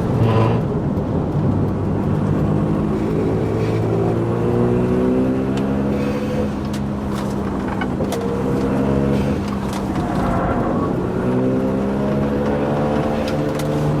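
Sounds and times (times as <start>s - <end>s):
sharp clicks and rattles: 0.0s - 4.4s, 6.5s - 14.0s
car engine droning: 0.0s - 14.0s.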